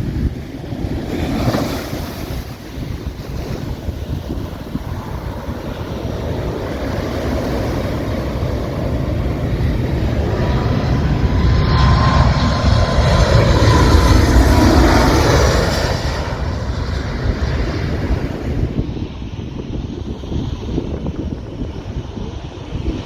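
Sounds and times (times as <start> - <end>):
plane engine passing overhead: 0.0 - 23.0
wind buffeting microphone: 0.0 - 23.0.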